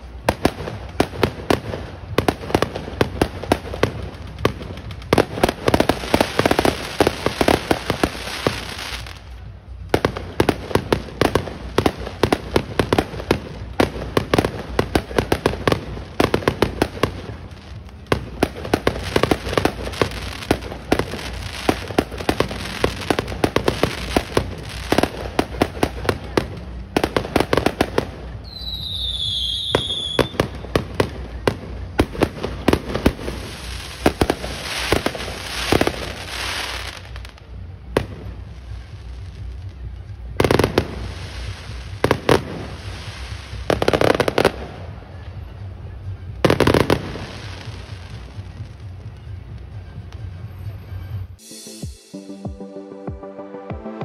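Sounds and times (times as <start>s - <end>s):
fireworks crackling and banging: 0.0s - 50.8s.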